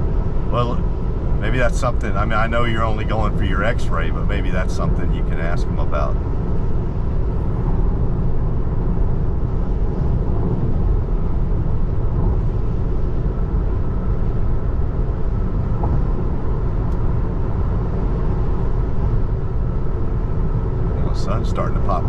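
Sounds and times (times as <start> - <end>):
road and tyre noise in car: 0.0 - 22.0.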